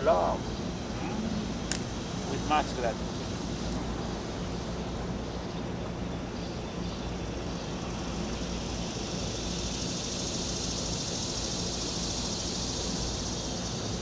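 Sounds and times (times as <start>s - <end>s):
high hiss: 0.0s - 14.0s.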